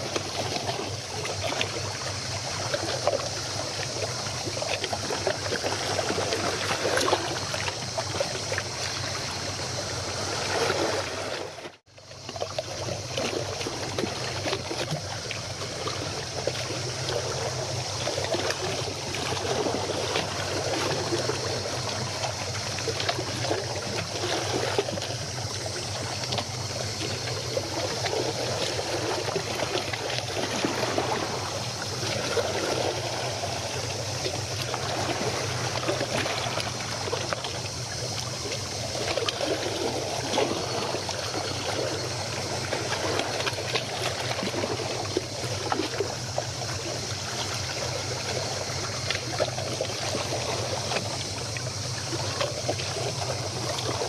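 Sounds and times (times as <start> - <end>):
water lapping at shore: 0.0 - 54.0.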